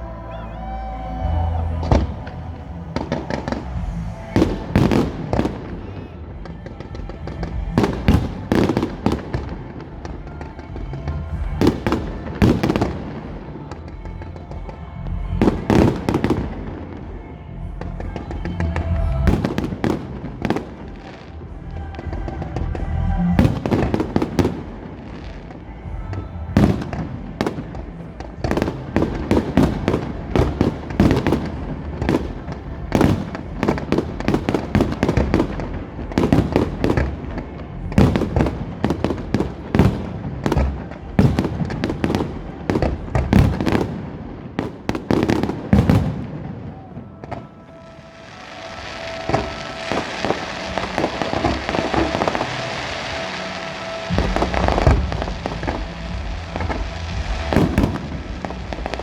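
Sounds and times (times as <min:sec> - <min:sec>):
fireworks bangs and cracks: 0:00.0 - 0:59.0.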